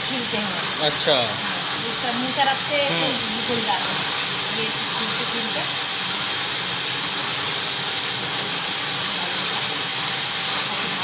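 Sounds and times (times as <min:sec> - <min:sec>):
spinning machine hissing: 0:00.0 - 0:11.0.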